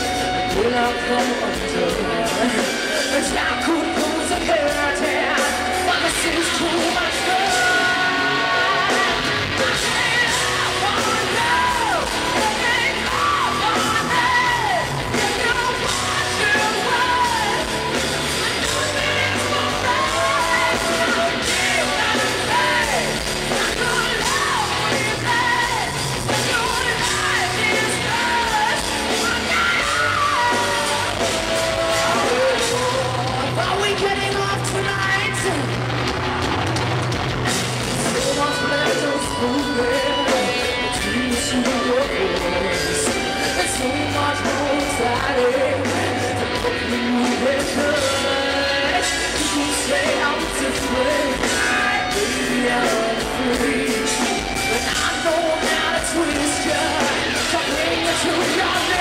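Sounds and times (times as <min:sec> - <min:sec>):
hard rock band playing live: 0:00.0 - 0:59.0.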